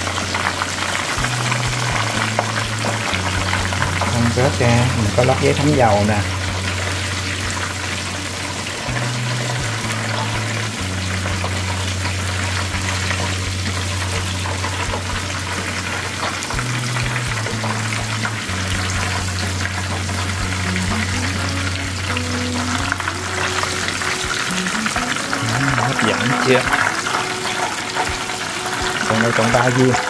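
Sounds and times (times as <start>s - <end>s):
cutlets sizzling in hot oil: 0.0s - 30.0s.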